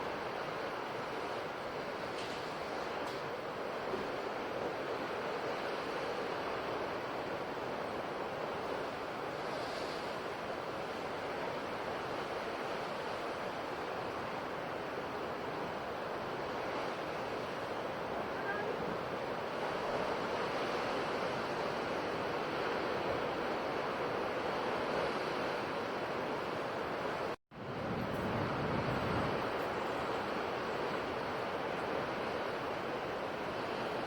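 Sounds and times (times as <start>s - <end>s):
sea waves washing onto shore: 0.0s - 34.0s.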